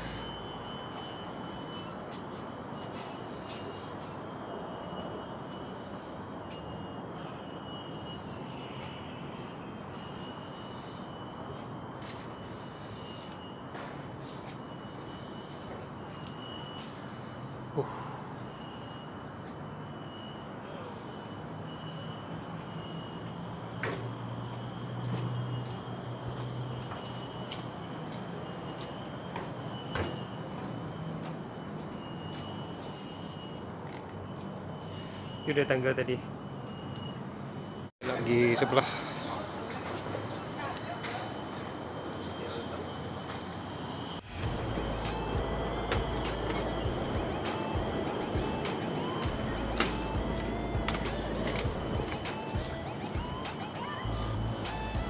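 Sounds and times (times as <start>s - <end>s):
insects shrilling: 0.0s - 55.0s
pulsing high insect tone: 0.0s - 55.0s.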